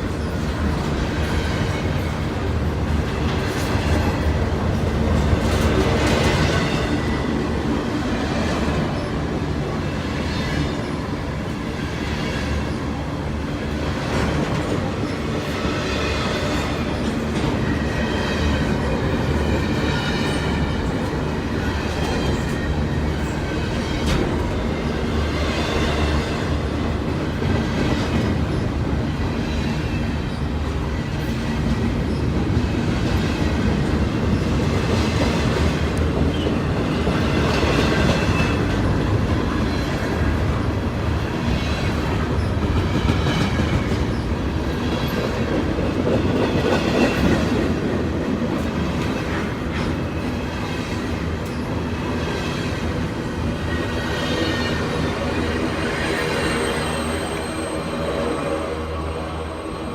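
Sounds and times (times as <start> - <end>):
freight train cars rumbling: 0.0 - 59.9.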